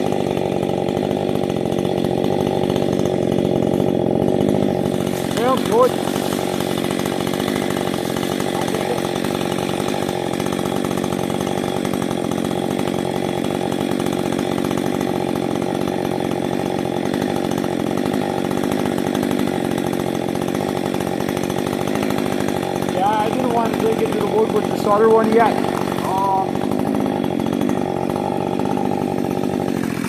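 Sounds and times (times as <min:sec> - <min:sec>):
chainsaw running: 0:00.0 - 0:30.0.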